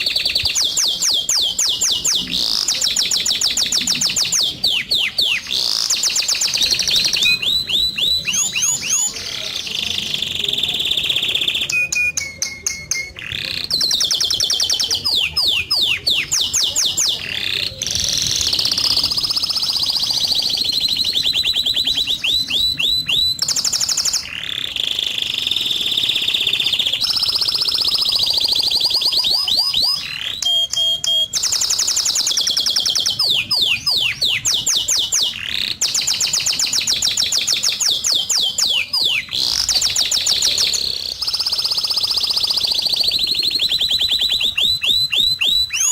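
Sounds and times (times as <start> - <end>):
songbird trilling: 0.0 - 45.9.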